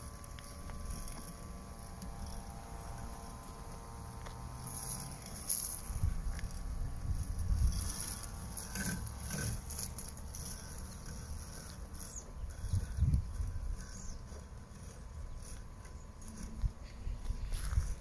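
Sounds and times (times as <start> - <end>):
robotic lawn mower humming: 0.0 - 18.0.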